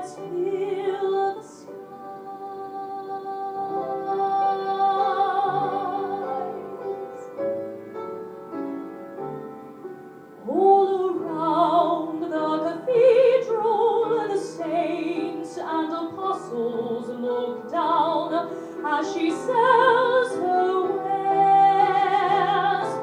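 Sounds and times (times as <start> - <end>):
woman singing operatically: 0.0 - 6.9, 10.4 - 23.0
piano accompaniment: 0.0 - 23.0.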